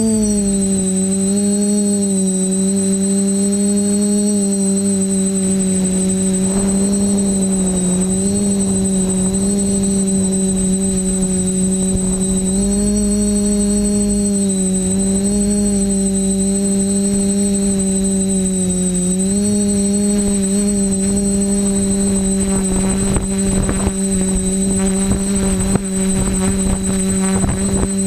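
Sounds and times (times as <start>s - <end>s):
quadcopter propellers droning: 0.0s - 28.0s
thin high whine: 0.0s - 28.0s.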